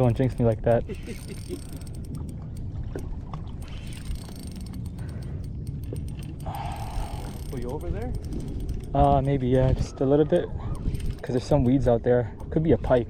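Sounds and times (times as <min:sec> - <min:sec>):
fishing reel clicking: 0:00.0 - 0:13.0
water around a boat: 0:00.0 - 0:13.0
wind: 0:00.0 - 0:13.0.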